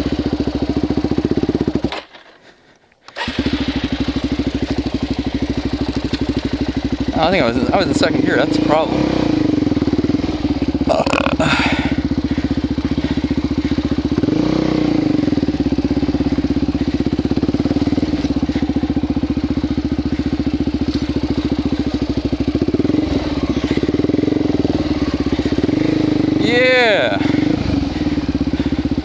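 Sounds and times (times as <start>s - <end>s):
motorcycle engine running: 0.0s - 2.2s, 3.2s - 29.0s.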